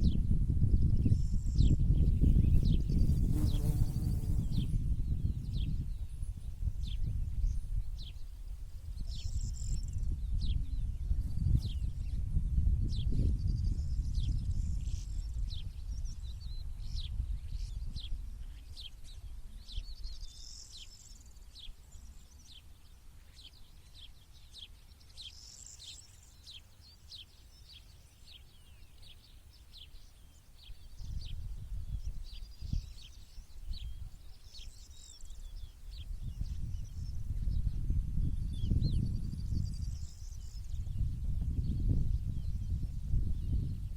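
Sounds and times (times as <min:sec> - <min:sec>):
small birds chirping: 0:01.0 - 0:12.2, 0:13.0 - 0:43.9.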